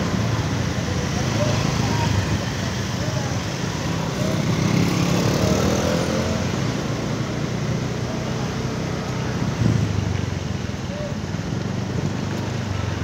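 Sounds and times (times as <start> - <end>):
car engines in traffic: 0.0 - 13.0
motorcycle engines in traffic: 0.0 - 13.0.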